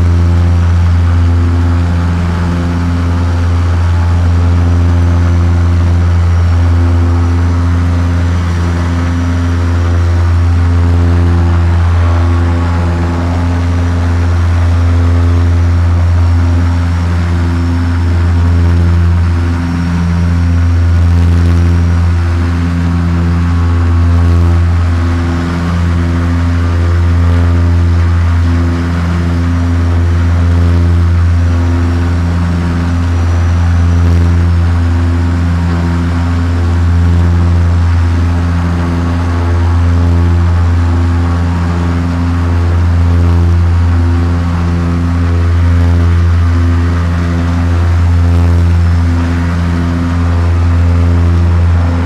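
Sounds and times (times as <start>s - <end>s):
airship engines droning: 0.0s - 52.0s.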